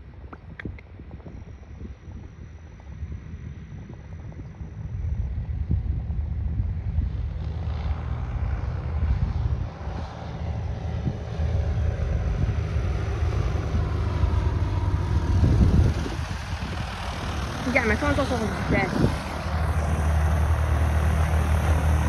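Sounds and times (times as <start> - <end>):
propeller plane engine: 0.0 - 22.0.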